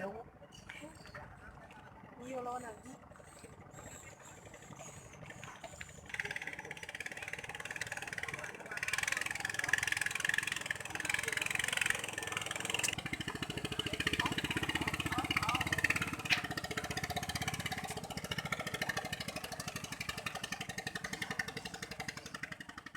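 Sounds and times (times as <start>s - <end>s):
small boat engine running: 1.0s - 22.9s.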